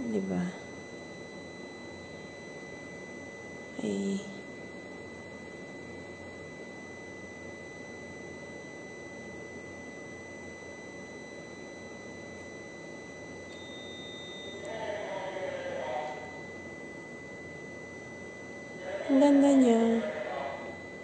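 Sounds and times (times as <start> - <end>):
steady high-pitched tone: 0.0 - 21.0.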